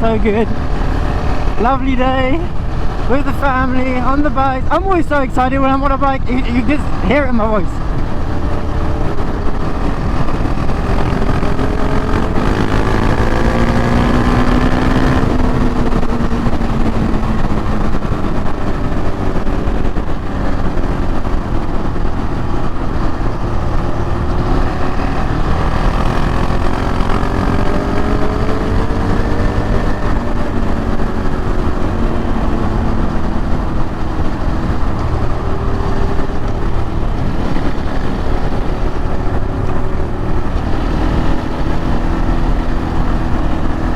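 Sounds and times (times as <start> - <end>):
motorcycle engine revving: 0.0 - 43.9
riding noise rush: 0.0 - 43.9.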